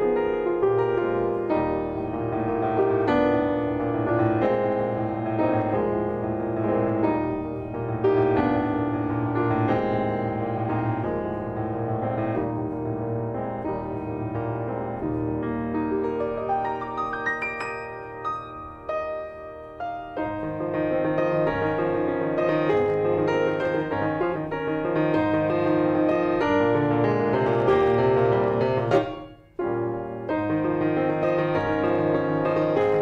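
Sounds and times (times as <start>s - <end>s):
solo grand piano: 0.0s - 33.0s.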